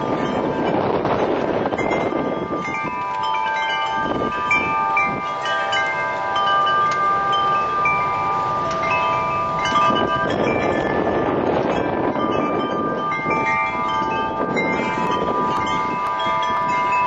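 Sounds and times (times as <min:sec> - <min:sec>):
wind chimes ringing: 0:00.0 - 0:17.0
wind rumble on microphone: 0:00.0 - 0:17.0.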